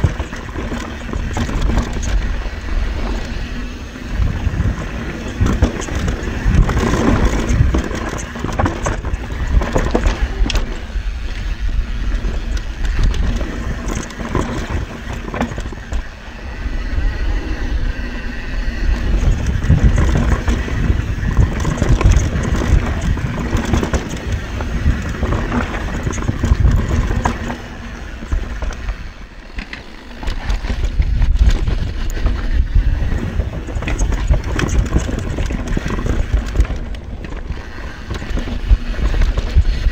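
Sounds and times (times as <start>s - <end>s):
bike tyres rolling over dirt: 0.0s - 39.9s
chain and suspension rattling: 0.0s - 39.9s
wind buffeting microphone: 0.0s - 39.9s.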